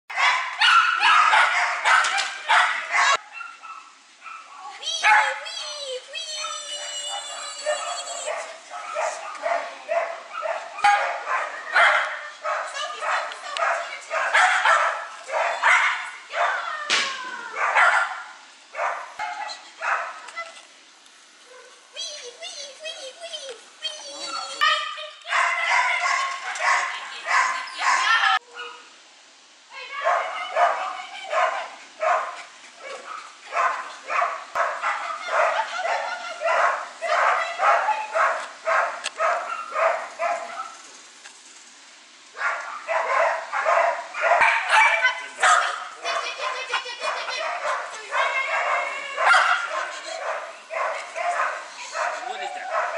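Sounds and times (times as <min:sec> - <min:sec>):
dog barking: 0:00.1 - 0:05.4, 0:06.4 - 0:16.6, 0:17.6 - 0:20.2, 0:21.5 - 0:21.8, 0:25.3 - 0:28.8, 0:30.0 - 0:40.8, 0:42.4 - 0:52.9.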